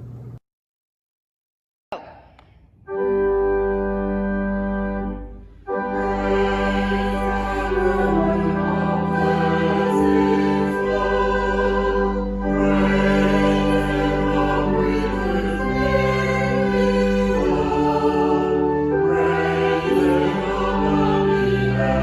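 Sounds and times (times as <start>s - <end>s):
choir singing sustained chords: 3.2s - 22.0s.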